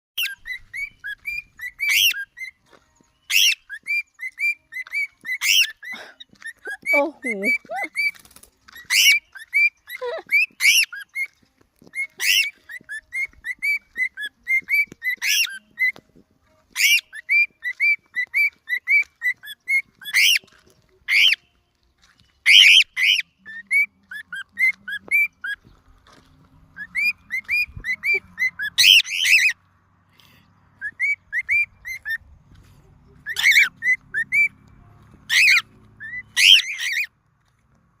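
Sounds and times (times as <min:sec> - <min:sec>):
cockatiels screeching: 0:00.2 - 0:02.6, 0:03.3 - 0:16.0, 0:16.7 - 0:21.4, 0:22.4 - 0:25.7, 0:26.8 - 0:29.6, 0:30.8 - 0:32.2, 0:33.2 - 0:34.6, 0:35.3 - 0:37.1
cockatiels chirping: 0:00.2 - 0:21.5, 0:22.4 - 0:25.9, 0:26.7 - 0:29.6, 0:30.8 - 0:32.3, 0:33.1 - 0:34.6, 0:35.2 - 0:37.1.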